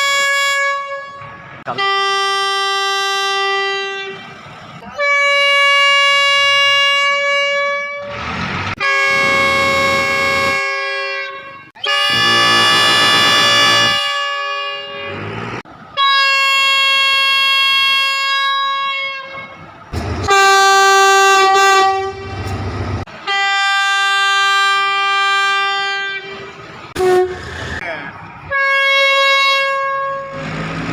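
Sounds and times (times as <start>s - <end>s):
locomotive air horn blasts: 0.0s - 22.6s, 23.2s - 27.8s, 28.5s - 30.6s
train rumble: 0.0s - 30.9s.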